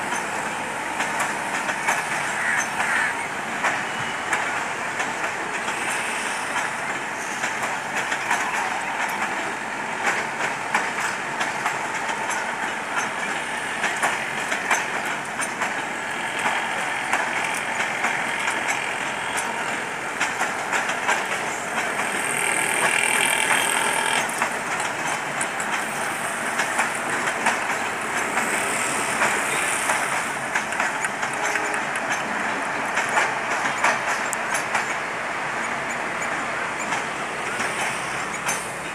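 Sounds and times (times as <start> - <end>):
train rumbling on track: 0.0 - 38.9
wheels clattering over rail joints: 0.0 - 38.9.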